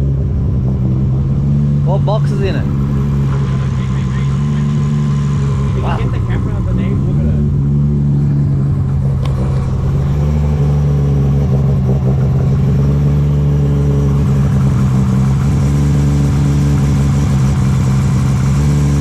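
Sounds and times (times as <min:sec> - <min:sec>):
car engine running loudly: 0:00.0 - 0:19.0.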